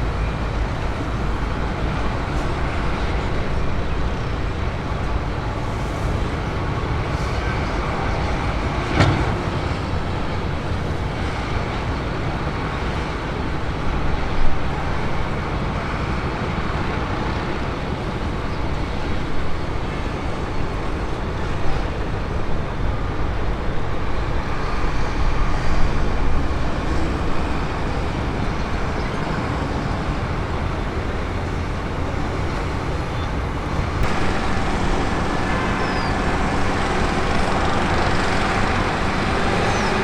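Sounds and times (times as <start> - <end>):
aircraft engines rumbling: 0.0 - 40.0
road traffic noise: 0.0 - 40.0.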